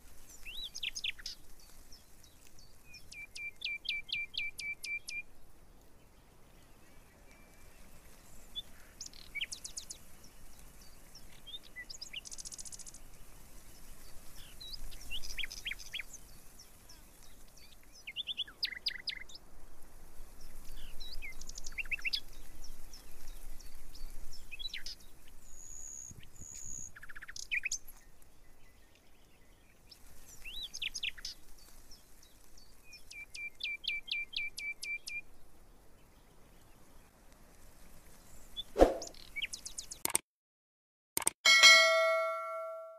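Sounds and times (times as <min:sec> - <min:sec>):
small birds singing and calling: 0:00.1 - 0:37.2, 0:38.1 - 0:40.1.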